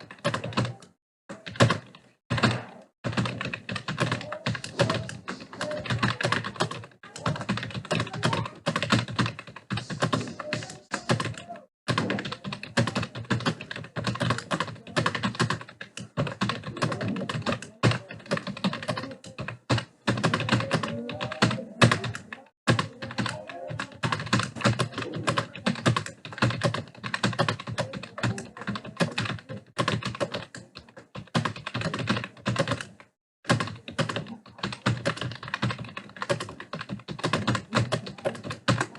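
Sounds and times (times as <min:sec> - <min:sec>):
fast typing on a computer keyboard: 0:00.0 - 0:38.9.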